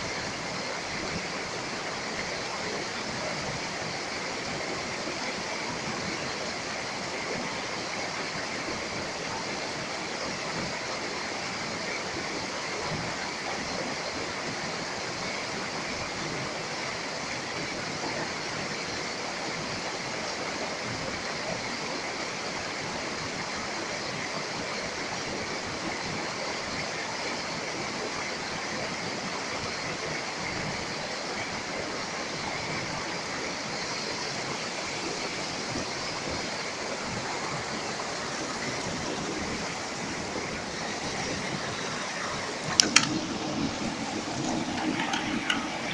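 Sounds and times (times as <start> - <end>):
creek rushing over boulders: 0.0 - 45.9.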